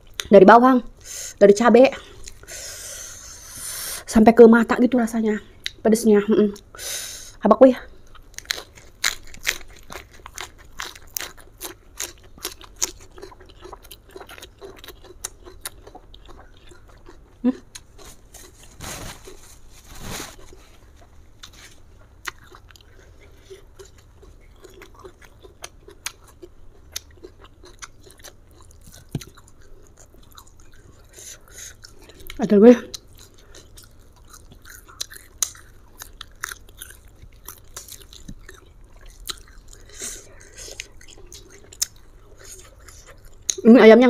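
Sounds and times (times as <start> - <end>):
crunchy vegetable chewing: 8.0 - 43.7.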